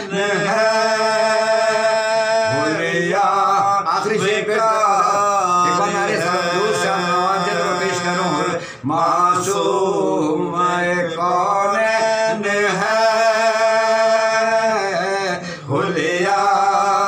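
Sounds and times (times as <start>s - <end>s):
men chanting in held notes: 0.0s - 17.0s.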